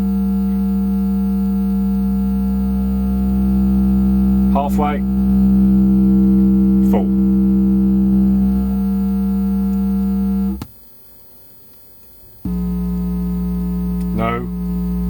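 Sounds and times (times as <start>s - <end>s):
low bass test tone: 0.0s - 10.6s, 12.5s - 15.0s.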